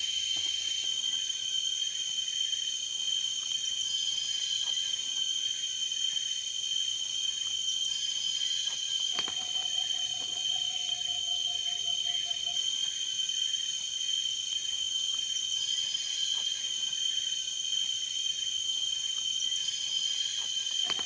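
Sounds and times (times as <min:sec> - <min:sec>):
forest insects trilling: 0:00.0 - 0:21.0.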